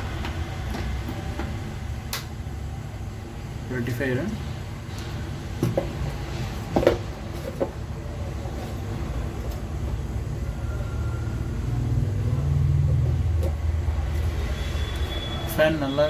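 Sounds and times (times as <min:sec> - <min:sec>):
cooling fan humming: 0:00.0 - 0:16.0.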